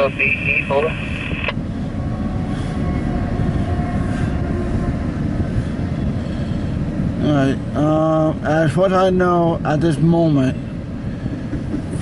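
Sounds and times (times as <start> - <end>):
faint steady whine: 0.0 - 12.0
train wheels rumbling on rail: 1.5 - 12.0.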